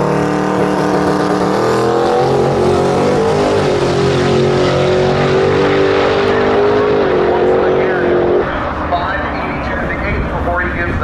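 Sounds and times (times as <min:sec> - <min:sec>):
engine accelerating hard: 0:00.0 - 0:11.0.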